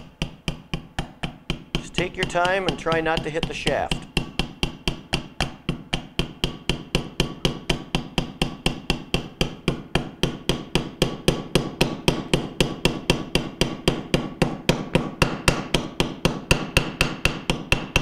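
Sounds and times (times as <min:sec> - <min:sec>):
hammer tapping on steel: 0:00.0 - 0:18.0.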